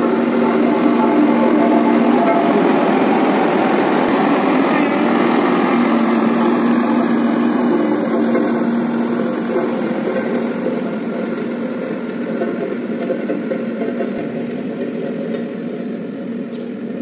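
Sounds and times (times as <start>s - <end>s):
road roller diesel engine: 0.0s - 17.0s.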